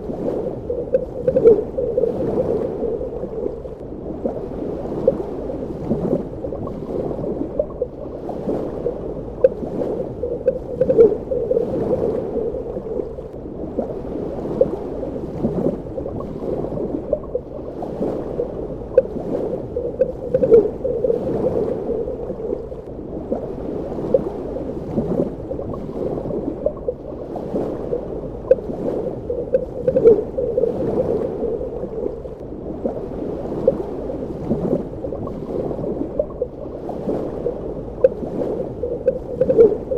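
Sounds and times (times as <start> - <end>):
underwater gurgling and bubbling: 0.0 - 39.9.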